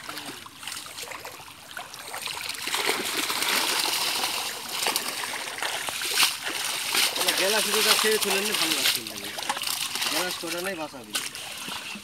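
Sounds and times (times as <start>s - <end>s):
fish splashing in a net: 0.0s - 12.0s
water running through mesh: 0.0s - 12.0s.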